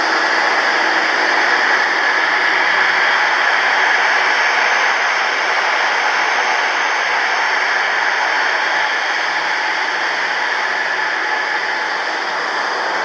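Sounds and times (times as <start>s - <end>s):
faint high whine: 0.0s - 13.0s
jet engines running: 0.0s - 13.0s.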